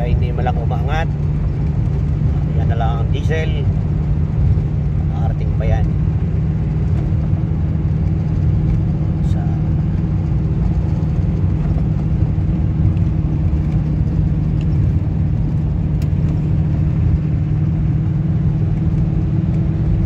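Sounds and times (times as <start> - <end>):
car cabin engine and tyre hum: 0.0 - 20.0.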